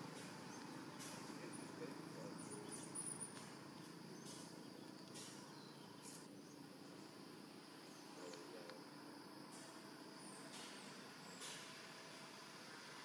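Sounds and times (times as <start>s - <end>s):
faint chirp: 0.0s - 11.8s.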